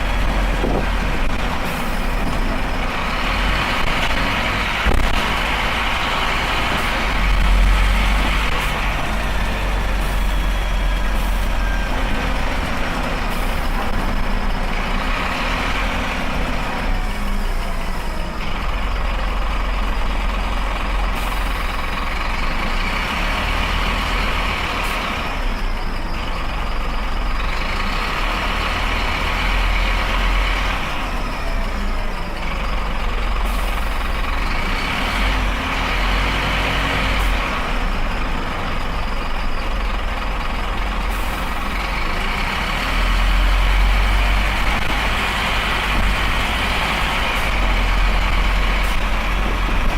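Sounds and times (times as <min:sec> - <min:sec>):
bus engine deep rumble: 0:00.0 - 0:49.9.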